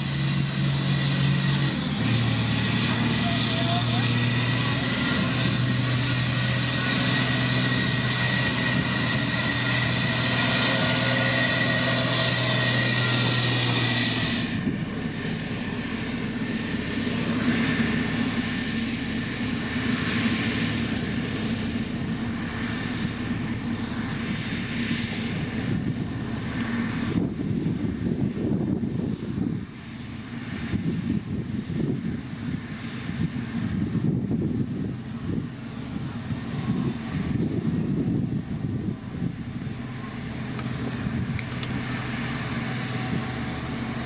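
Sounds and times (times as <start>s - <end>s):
heavy diesel machinery running: 0.0s - 44.0s.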